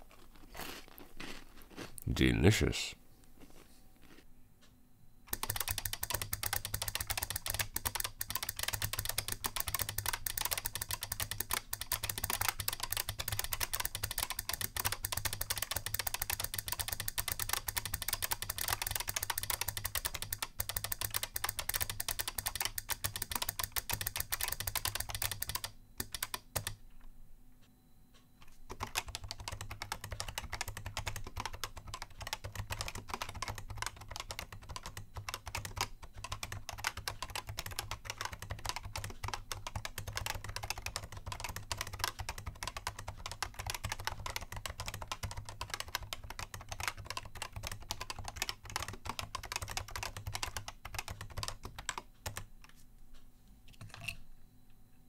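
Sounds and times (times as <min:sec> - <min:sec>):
fast typing on keyboard: 0:05.3 - 0:26.8, 0:28.6 - 0:52.5.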